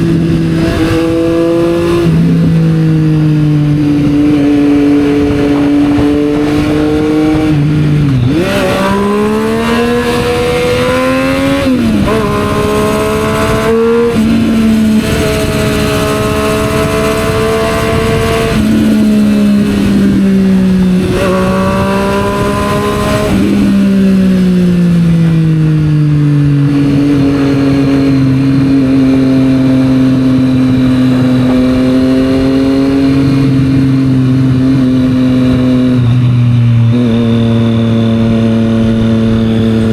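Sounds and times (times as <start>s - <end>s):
motorcycle engine accelerating: 0.0s - 39.9s
road and wind noise: 0.0s - 39.9s.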